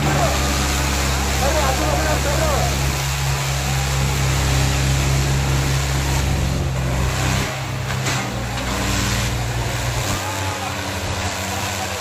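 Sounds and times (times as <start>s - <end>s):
noisy wash: 0.0s - 12.0s
tractor diesel engine running: 0.0s - 12.0s.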